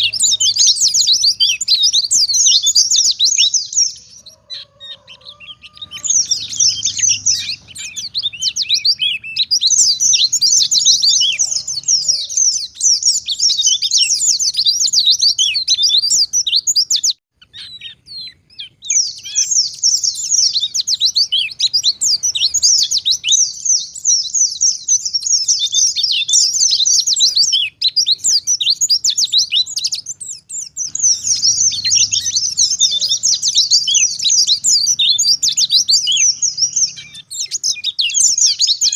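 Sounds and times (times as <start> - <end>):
bird twittering: 0.0 - 38.9.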